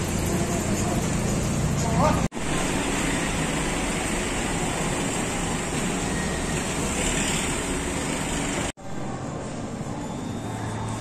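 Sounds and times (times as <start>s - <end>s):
traffic: 0.0s - 11.0s.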